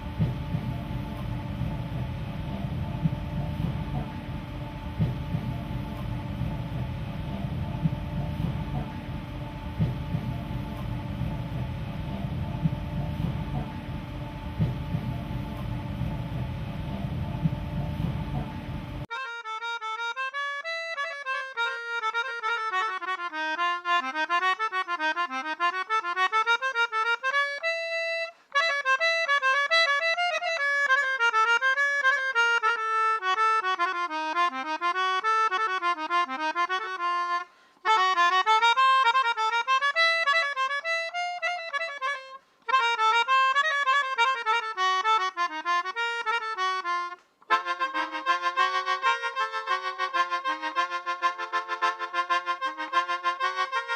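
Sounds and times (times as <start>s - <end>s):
free-reed instrument melody: 0.0s - 53.9s.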